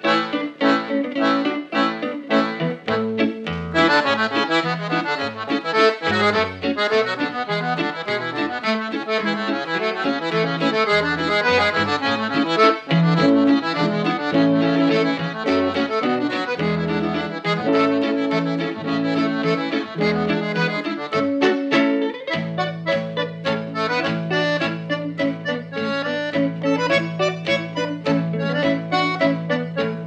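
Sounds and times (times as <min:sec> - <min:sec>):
accordion playing a tune: 0:00.0 - 0:30.0.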